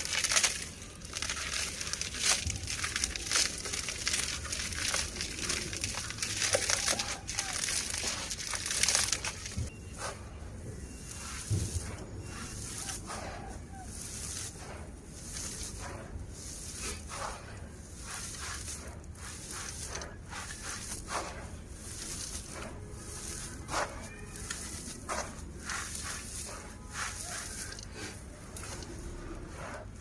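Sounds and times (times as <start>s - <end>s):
dry dirt crunching: 0.0s - 30.0s.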